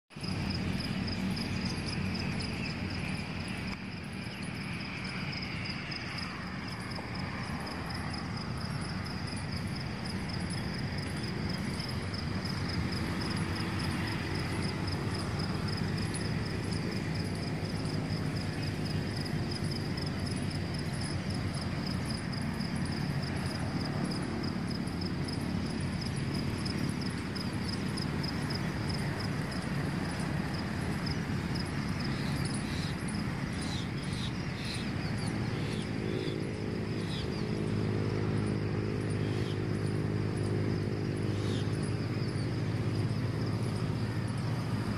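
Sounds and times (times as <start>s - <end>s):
insects trilling: 0.1s - 44.9s.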